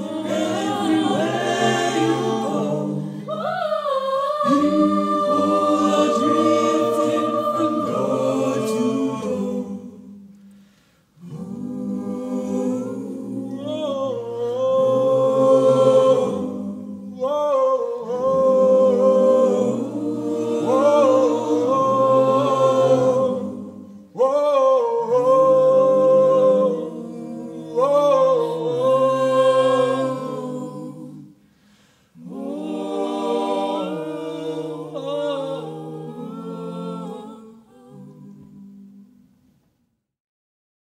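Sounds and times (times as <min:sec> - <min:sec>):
choir singing wordless chords: 0:00.0 - 0:39.4.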